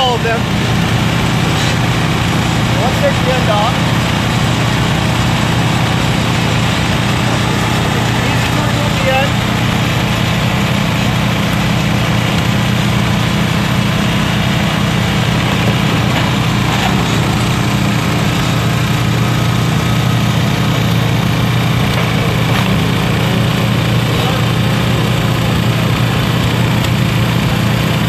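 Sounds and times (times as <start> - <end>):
small engine idling: 0.0 - 28.0.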